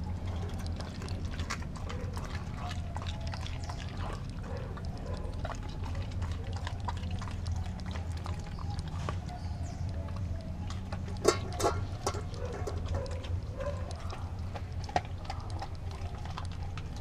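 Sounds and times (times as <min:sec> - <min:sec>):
dog eating wetly: 0:00.0 - 0:17.0
low hum: 0:00.0 - 0:17.0.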